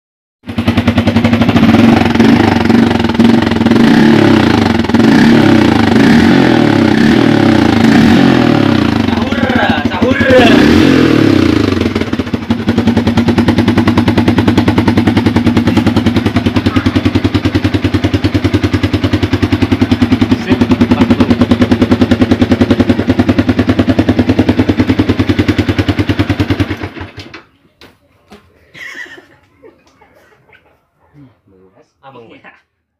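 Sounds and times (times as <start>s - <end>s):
motorcycle engine idling: 0.5s - 27.5s.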